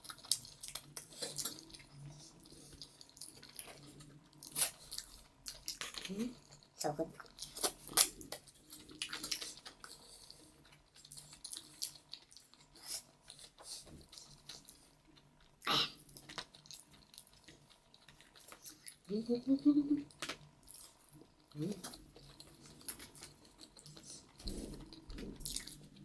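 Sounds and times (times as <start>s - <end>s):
chewing and crunching food: 0.0s - 26.0s.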